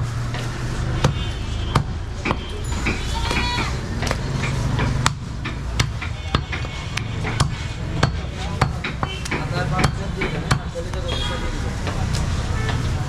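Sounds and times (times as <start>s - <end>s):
cleaver chopping meat: 0.3s - 10.8s.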